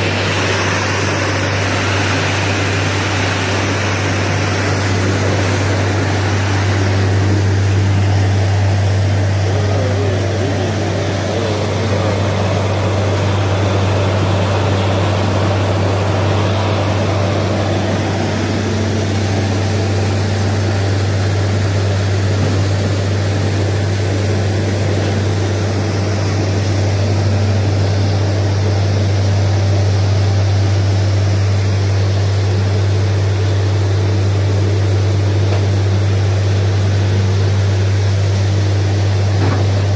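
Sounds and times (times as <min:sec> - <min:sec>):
rushing air blowing dust: 0:00.0 - 0:34.5
drilling rig droning: 0:00.0 - 0:39.9.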